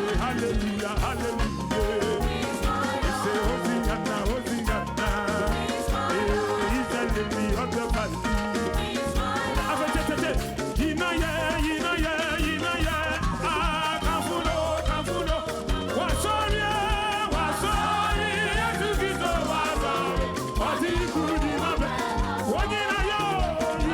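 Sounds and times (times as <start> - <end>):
drum and bass beat: 0.0 - 23.9
person singing: 0.0 - 23.9
upbeat gospel music: 0.0 - 23.9.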